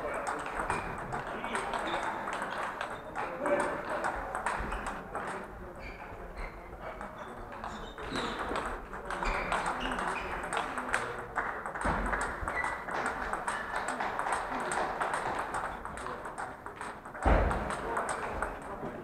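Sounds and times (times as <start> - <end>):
murmur of voices: 0.0 - 19.0
table tennis balls clicking: 0.0 - 19.0.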